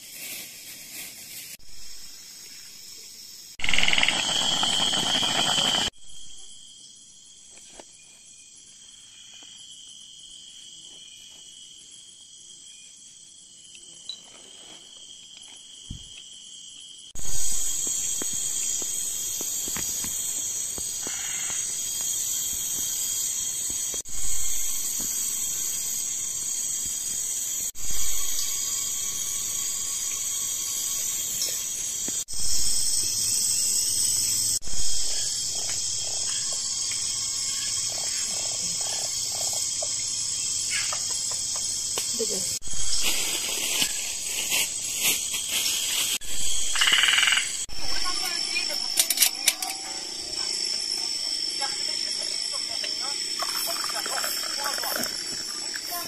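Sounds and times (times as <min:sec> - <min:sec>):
insects chirring and buzzing: 0:00.0 - 0:56.0.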